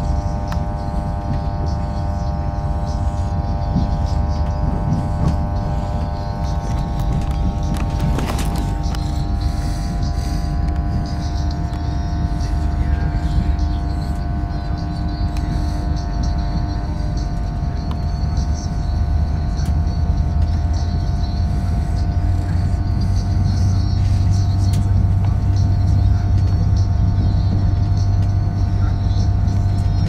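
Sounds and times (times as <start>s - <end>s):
train running gear whine: 0.0s - 30.0s
wheels rumbling on track: 0.0s - 30.0s.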